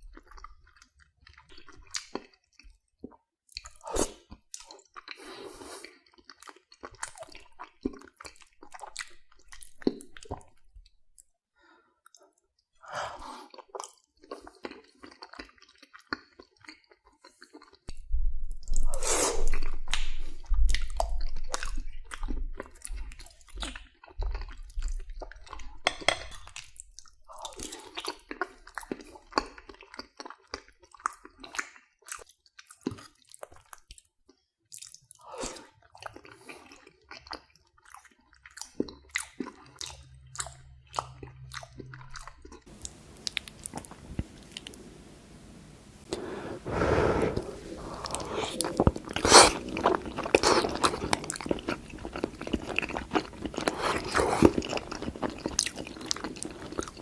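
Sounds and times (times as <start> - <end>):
mouth chewing wet food: 0.0 - 11.3, 12.0 - 44.9, 46.0 - 57.0.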